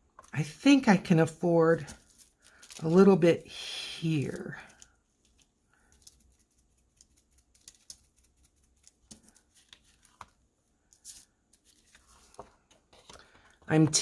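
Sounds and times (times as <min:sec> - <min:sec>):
card and stencil rustling: 0:01.7 - 0:03.2, 0:04.1 - 0:14.0.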